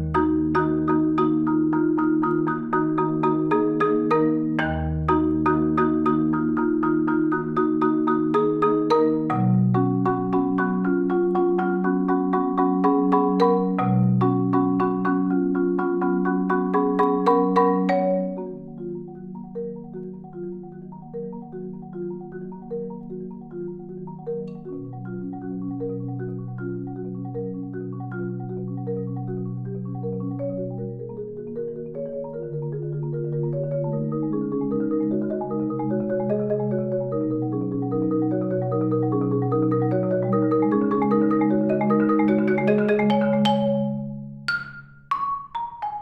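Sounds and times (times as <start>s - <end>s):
solo marimba playing: 0.0s - 46.0s.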